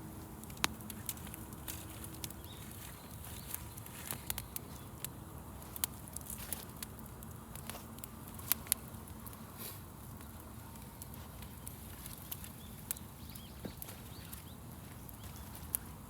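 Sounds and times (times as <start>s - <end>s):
campfire crackling and popping: 0.0s - 16.0s
low hiss of burning: 0.0s - 16.0s.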